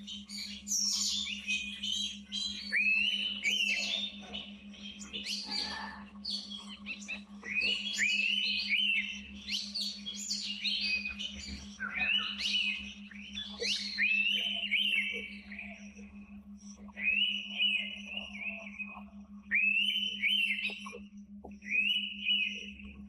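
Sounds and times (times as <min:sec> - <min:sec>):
bird song whistles: 0:00.0 - 0:23.0
steady low hum: 0:00.0 - 0:23.0.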